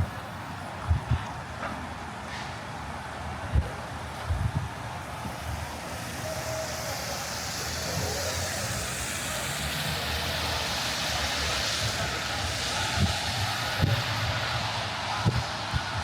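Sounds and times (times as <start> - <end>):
tyres hissing on wet pavement: 0.0 - 16.0.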